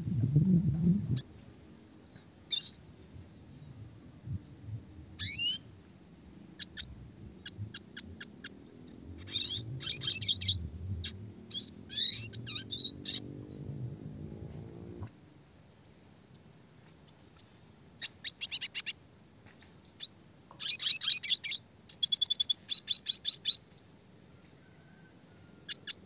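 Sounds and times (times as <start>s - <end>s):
bird singing: 1.8s - 5.7s, 6.6s - 13.8s, 15.5s - 25.1s, 25.7s - 26.0s.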